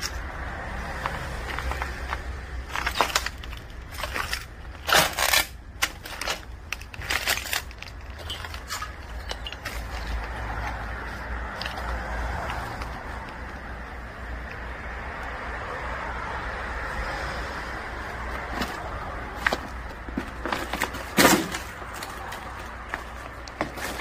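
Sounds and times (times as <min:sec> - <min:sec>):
crunching and scraping debris: 0:00.0 - 0:13.6, 0:18.1 - 0:24.0.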